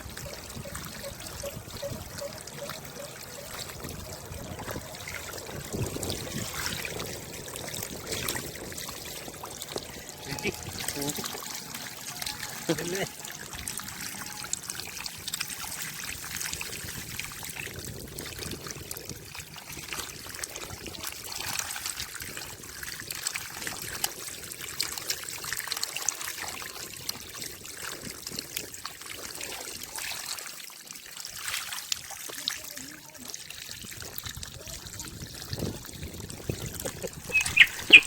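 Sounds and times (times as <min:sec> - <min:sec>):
small water splashes: 0:00.0 - 0:38.0
water trickling: 0:00.0 - 0:38.0.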